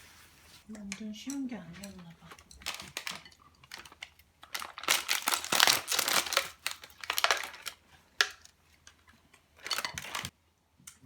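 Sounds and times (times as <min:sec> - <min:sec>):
crinkling and rustling: 0:00.0 - 0:10.4.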